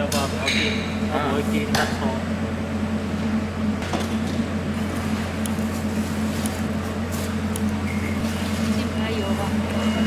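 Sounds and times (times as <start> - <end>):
steady low hum: 0.8 - 10.0.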